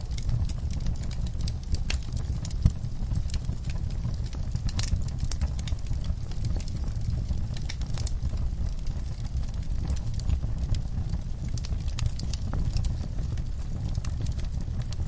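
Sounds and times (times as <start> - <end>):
steady low rumble: 0.0 - 15.0
wood fire crackling and popping: 0.0 - 15.0.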